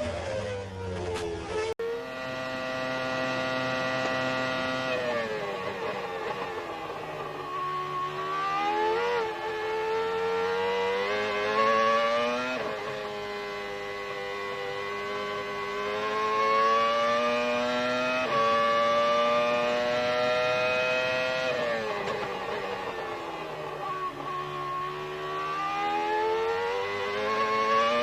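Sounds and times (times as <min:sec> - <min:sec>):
race car engine at high revs: 0:01.5 - 0:28.0.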